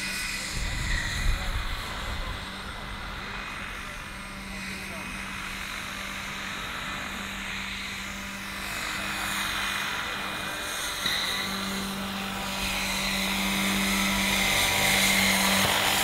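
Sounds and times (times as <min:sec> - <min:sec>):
model helicopter rotor whirring: 0:00.0 - 0:16.0.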